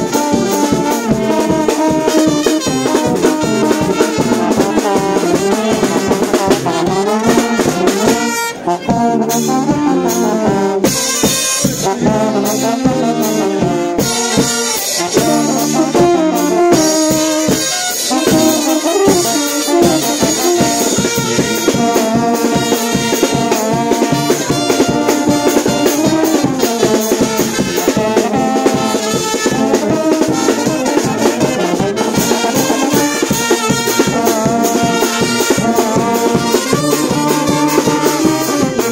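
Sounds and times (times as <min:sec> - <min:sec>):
brass band playing: 0:00.0 - 0:38.9
drum and cymbal beat: 0:00.0 - 0:38.9.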